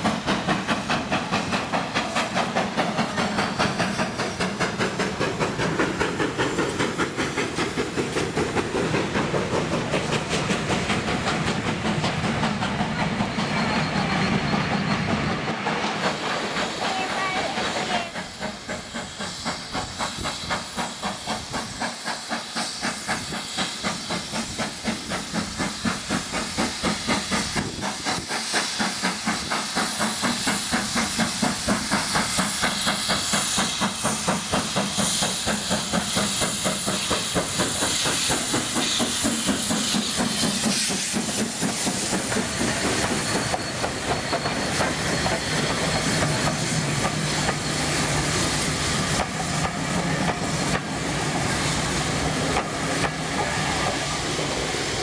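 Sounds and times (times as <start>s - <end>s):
steam hiss: 0.0s - 55.0s
steam locomotive exhaust beats: 0.0s - 55.0s.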